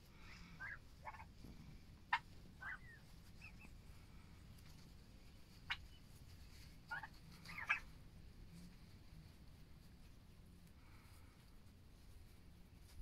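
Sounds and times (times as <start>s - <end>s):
young turkeys chirping and yelping: 0.0s - 13.0s.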